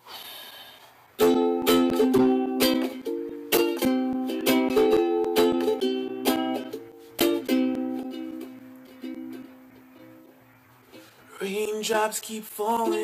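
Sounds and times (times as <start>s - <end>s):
ukulele strumming chords: 1.2s - 13.0s.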